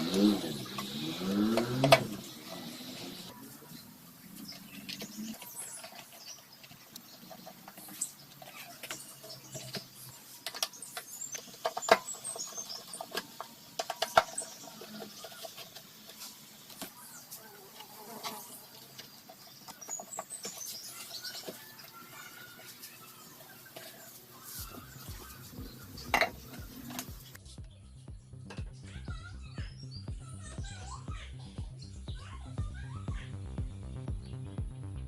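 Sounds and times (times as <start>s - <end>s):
faint high chirps: 0.0s - 34.4s.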